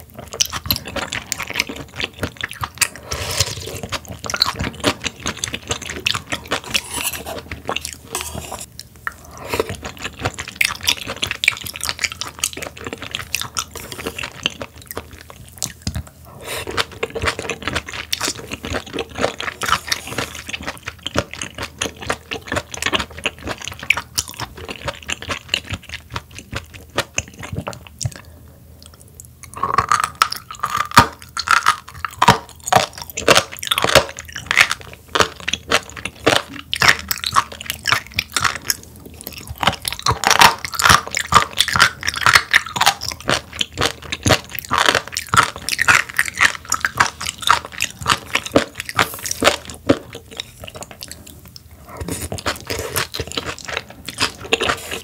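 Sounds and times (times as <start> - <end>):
wet crunchy chewing: 0.0 - 55.0.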